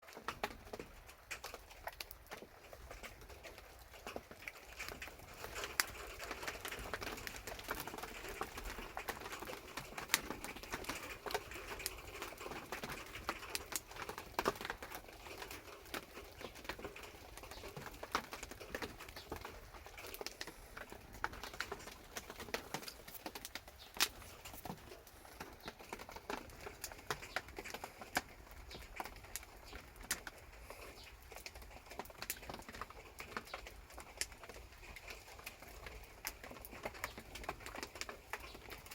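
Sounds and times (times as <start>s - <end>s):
rain on a corrugated roof: 0.0s - 38.9s
wood fire crackling: 0.0s - 38.9s.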